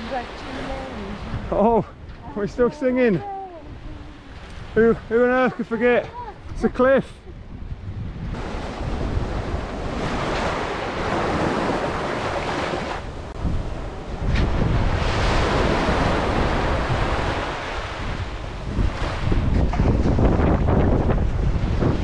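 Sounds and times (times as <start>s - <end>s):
waves washing up beach: 0.0s - 7.0s, 8.3s - 22.0s
wind buffeting microphone: 0.0s - 22.0s.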